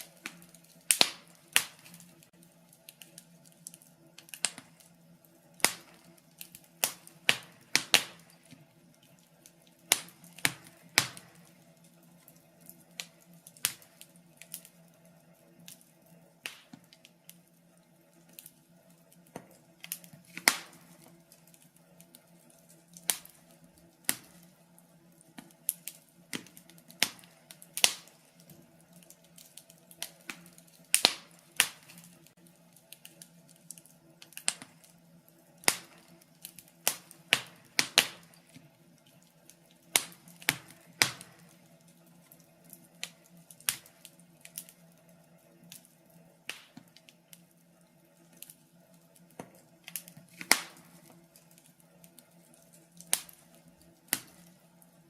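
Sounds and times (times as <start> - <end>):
faint steady hum: 0.0 - 55.0
wood fire crackling: 0.0 - 55.0.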